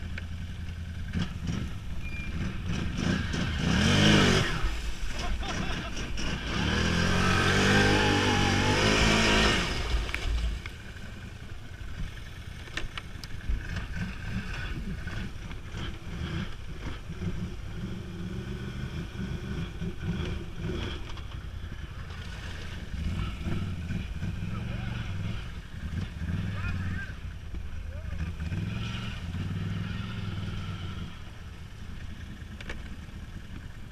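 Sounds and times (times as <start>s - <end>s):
engine revving: 0.9s - 10.8s, 13.4s - 32.8s.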